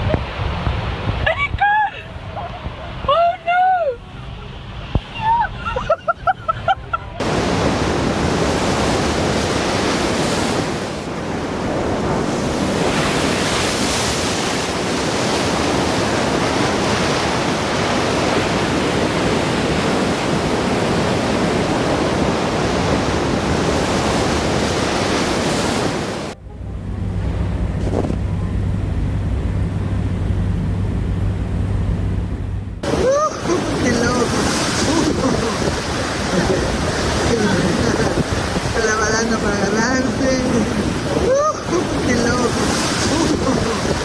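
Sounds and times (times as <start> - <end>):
surf rushing: 0.0 - 44.0.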